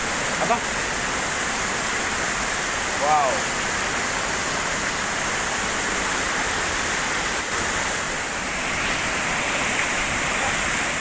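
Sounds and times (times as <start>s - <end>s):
waterfall rushing into a pool: 0.0s - 11.0s.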